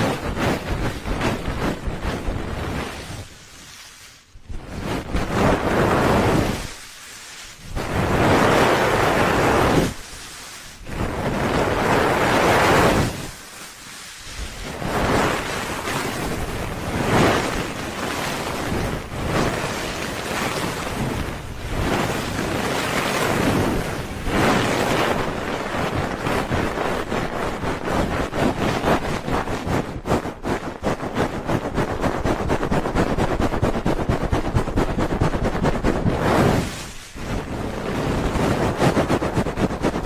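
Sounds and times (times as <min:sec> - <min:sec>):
microphone rubbing whooshes: 0:00.0 - 0:03.8, 0:04.4 - 0:06.9, 0:07.5 - 0:13.4, 0:14.3 - 0:40.0.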